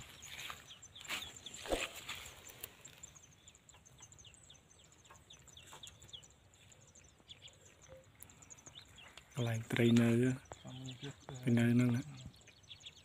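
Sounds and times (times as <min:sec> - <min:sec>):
bird peeping: 0:00.0 - 0:13.0.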